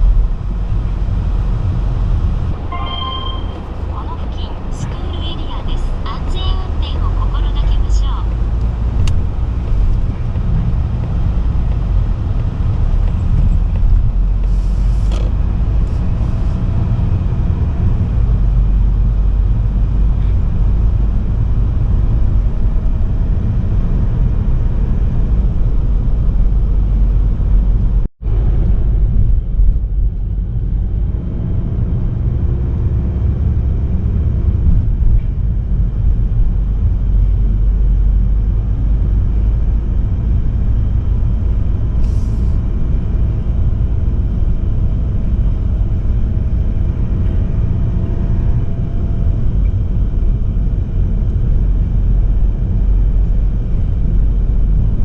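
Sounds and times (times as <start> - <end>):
vehicle road and engine rumble: 0.0 - 55.0.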